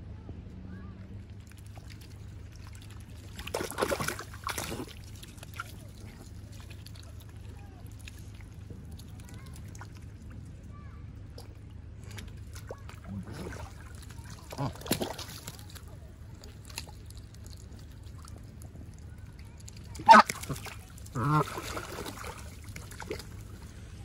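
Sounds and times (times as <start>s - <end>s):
water sloshing and splashing: 1.2s - 24.0s.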